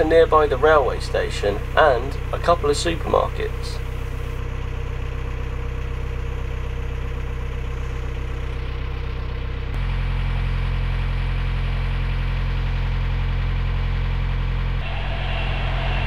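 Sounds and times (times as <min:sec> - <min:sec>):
boat diesel engine running: 0:00.0 - 0:16.0.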